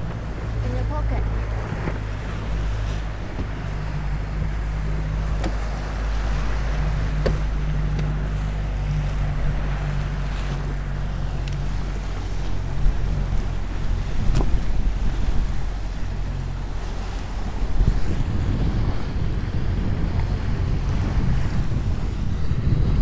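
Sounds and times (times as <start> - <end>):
motorboat engine humming: 0.0 - 23.0
water wash: 0.0 - 23.0
wind buffeting microphone: 0.0 - 23.0.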